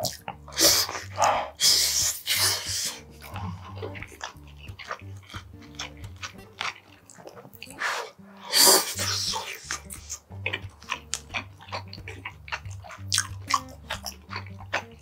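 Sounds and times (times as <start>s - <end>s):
chewing clicks and smacks: 0.0s - 7.9s, 8.8s - 15.0s
wet bite: 0.0s - 15.0s.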